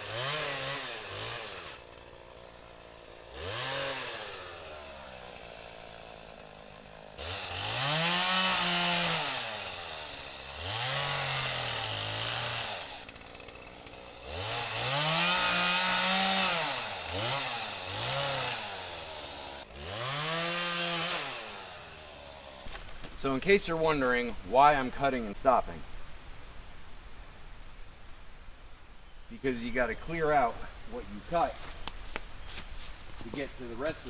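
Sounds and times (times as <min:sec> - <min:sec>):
chainsaw cutting wood: 0:00.0 - 0:25.1, 0:30.0 - 0:34.0.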